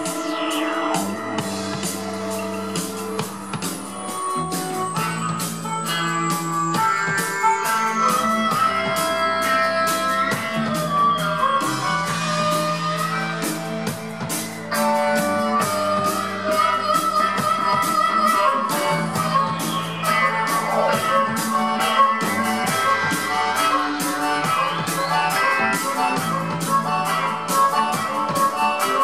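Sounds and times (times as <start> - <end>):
harmonica sustained notes: 0.0 - 29.0
high tone falling in pitch: 0.0 - 29.0
live rock band playing: 0.0 - 29.0.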